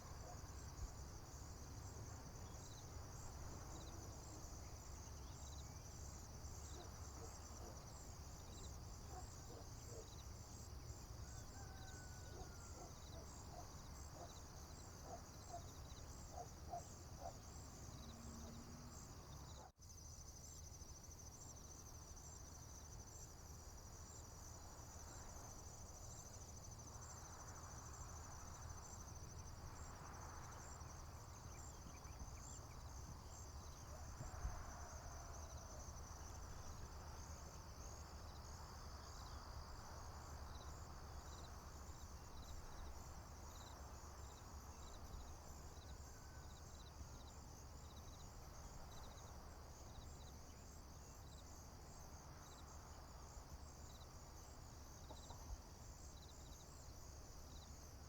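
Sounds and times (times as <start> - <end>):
crickets chirping and trilling: 0.0 - 58.0.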